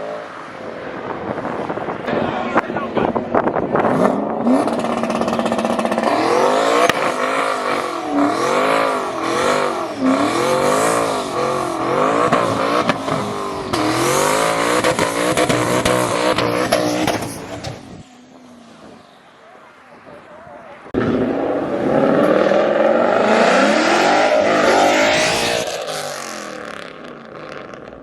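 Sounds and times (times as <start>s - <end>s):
car engine revving: 2.8s - 19.0s, 20.8s - 28.0s.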